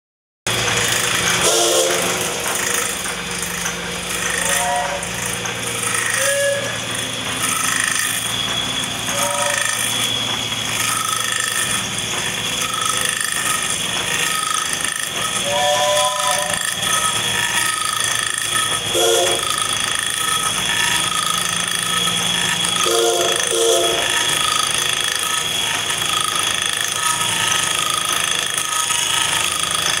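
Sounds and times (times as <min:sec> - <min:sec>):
cutter chattering on wood: 0:00.5 - 0:30.0
lathe humming and whining: 0:00.5 - 0:30.0.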